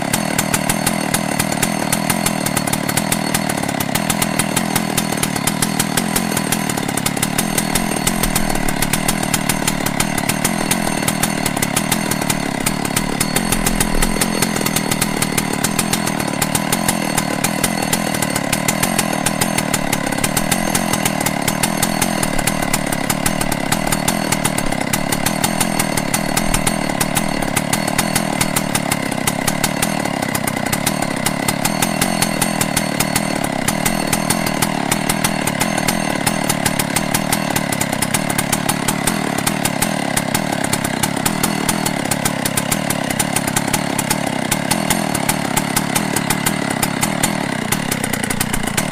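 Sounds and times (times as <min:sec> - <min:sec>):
chainsaw running: 0:00.0 - 0:48.9.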